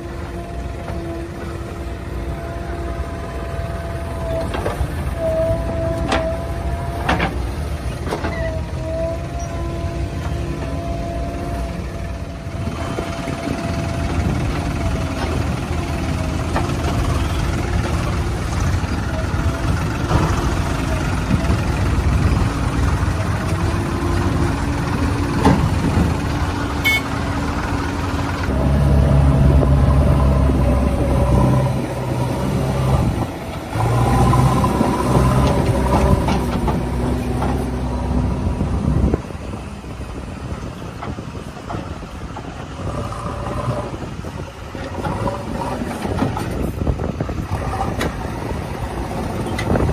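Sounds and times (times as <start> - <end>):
heavy diesel engine revving: 0.0 - 49.9.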